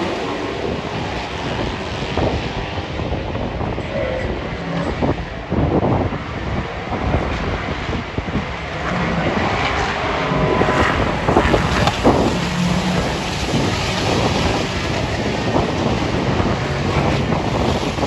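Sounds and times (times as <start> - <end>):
race car engines passing: 0.0 - 18.0
wind buffeting microphone: 0.0 - 18.0.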